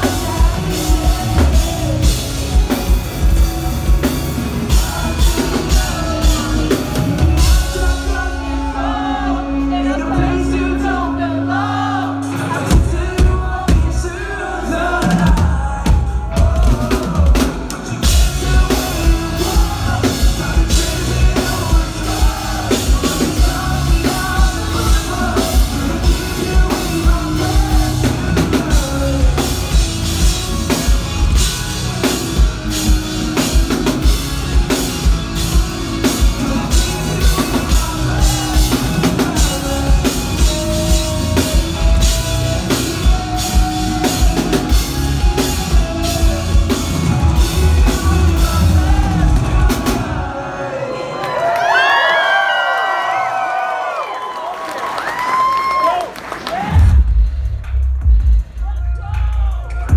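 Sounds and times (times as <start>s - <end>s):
drum kit: 0.0s - 50.6s, 56.5s - 59.9s
person singing: 0.0s - 52.7s
bass: 0.0s - 54.0s, 54.8s - 59.9s.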